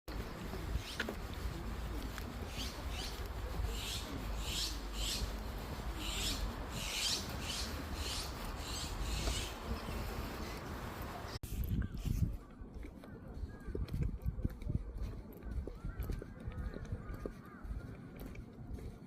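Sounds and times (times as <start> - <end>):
footsteps crunching on a path: 0.1 - 19.0.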